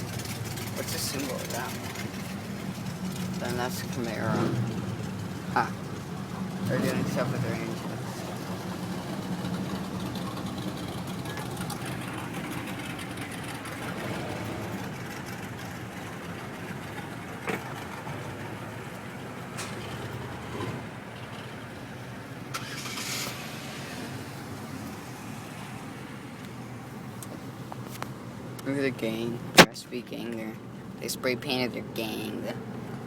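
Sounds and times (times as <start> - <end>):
car engine humming: 0.0 - 33.0.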